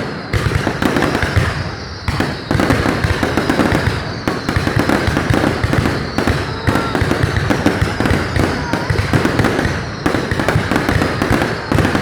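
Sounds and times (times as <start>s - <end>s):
fireworks crackling and popping: 0.0s - 12.0s
fireworks deep thuds: 0.0s - 12.0s.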